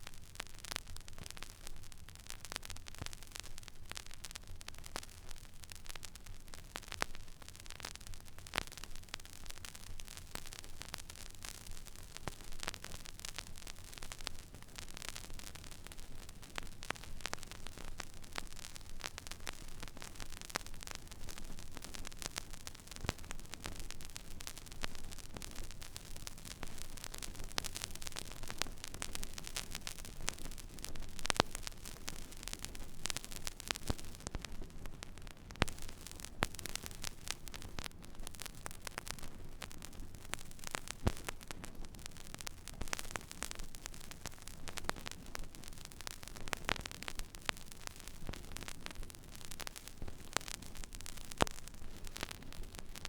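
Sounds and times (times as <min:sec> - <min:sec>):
vinyl pops: 0:00.0 - 0:53.0
vinyl surface hiss and crackle: 0:00.0 - 0:53.0.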